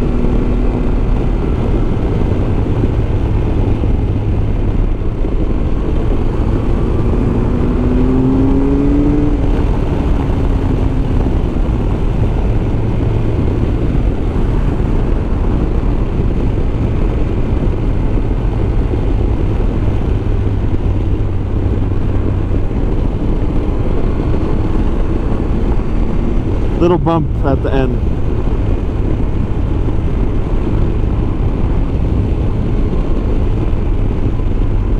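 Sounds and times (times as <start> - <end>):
rushing wind: 0.0 - 34.9.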